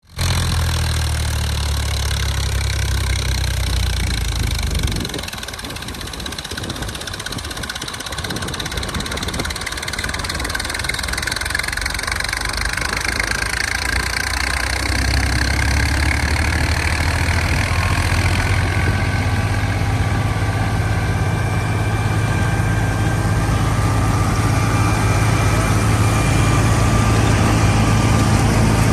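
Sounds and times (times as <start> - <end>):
tractor engine running: 0.0 - 28.9
thresher steady noise: 0.1 - 28.9.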